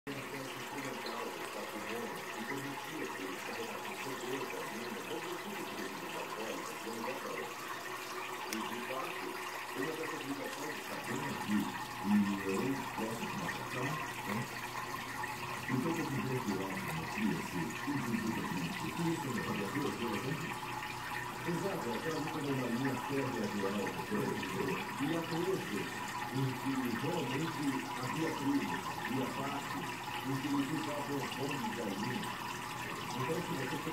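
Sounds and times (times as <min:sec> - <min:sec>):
aquarium water bubbling: 0:00.1 - 0:33.9
muffled voices: 0:00.1 - 0:33.9.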